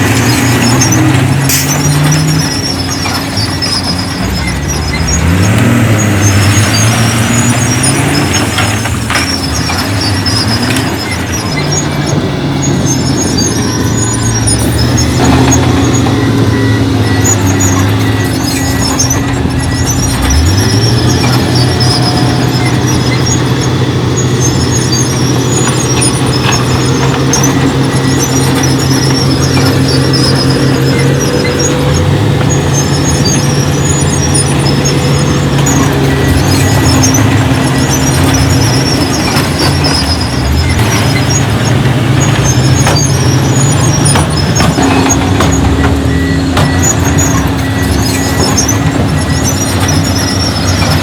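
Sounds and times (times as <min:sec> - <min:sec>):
diesel engine revving: 0:00.0 - 0:51.0
high-pitched squealing: 0:00.0 - 0:51.0.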